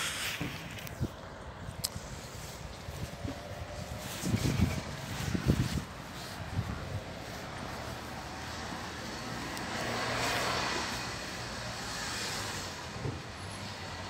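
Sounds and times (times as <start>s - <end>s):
steady low traffic hum: 0.0s - 14.0s
vehicle passing: 2.4s - 14.0s.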